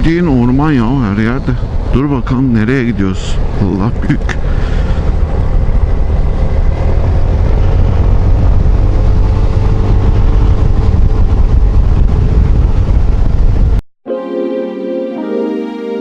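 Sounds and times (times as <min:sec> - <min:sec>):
wind rumble on microphone: 0:00.0 - 0:13.8.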